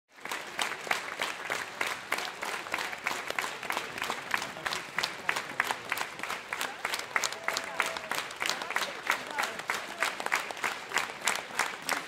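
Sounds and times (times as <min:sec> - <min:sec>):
crowd applauding: 0:00.1 - 0:12.0.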